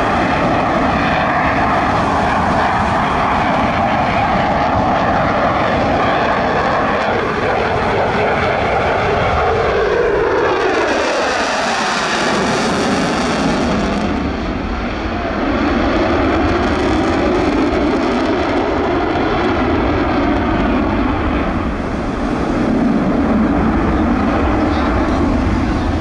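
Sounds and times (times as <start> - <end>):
aircraft engine flying past: 0.0 - 26.0.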